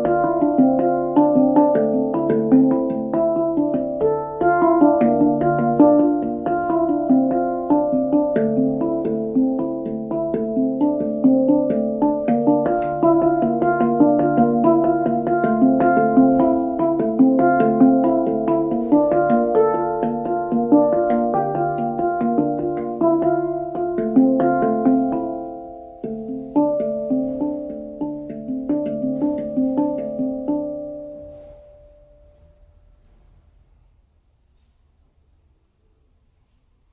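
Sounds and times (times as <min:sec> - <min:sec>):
handpan notes ringing: 0:00.0 - 0:33.0.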